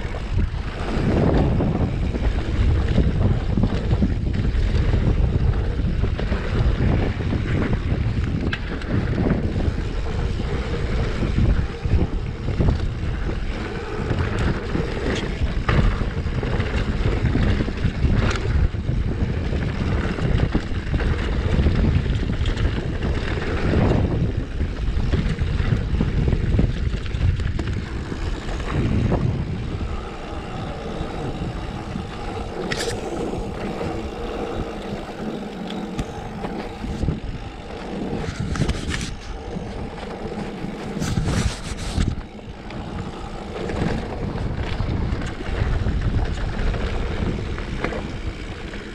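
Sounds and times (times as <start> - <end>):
bike rattling over bumps: 0.0 - 48.9
bike tyres rolling over dirt: 0.0 - 48.9
wind over microphone: 0.0 - 48.9.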